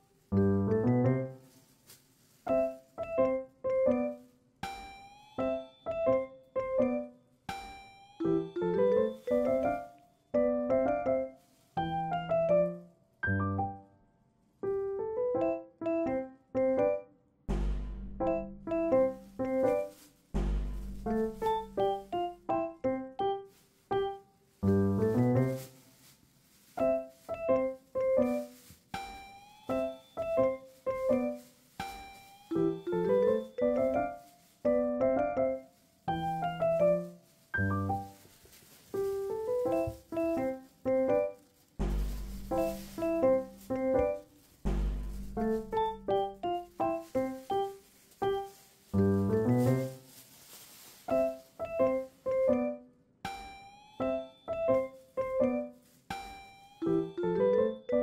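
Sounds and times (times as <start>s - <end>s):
piano music: 0.0s - 1.6s, 2.4s - 13.9s, 14.6s - 58.0s.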